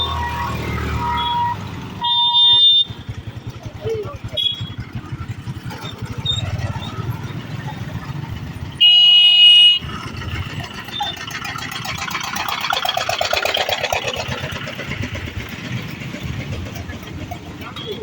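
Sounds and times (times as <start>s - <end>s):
train rattling clatter: 1.5s - 8.8s, 9.8s - 18.0s.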